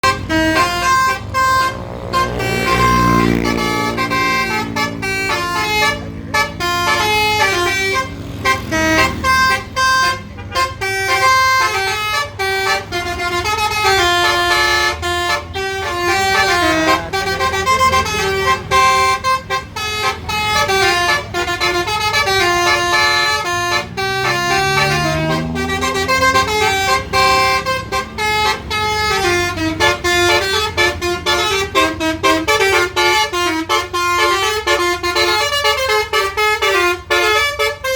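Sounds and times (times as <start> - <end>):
bus horn playing melody: 0.0 - 37.9.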